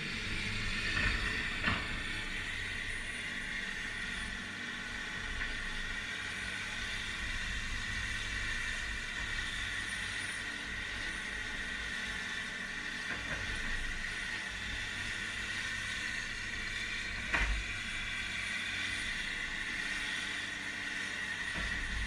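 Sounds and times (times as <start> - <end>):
heavy machinery running: 0.0 - 22.0.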